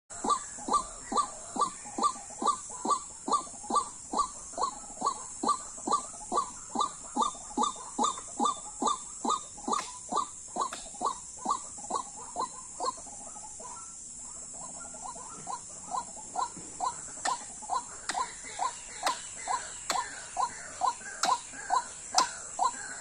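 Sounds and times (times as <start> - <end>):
constant high hiss: 0.1 - 23.0
waterhen calling: 0.1 - 23.0.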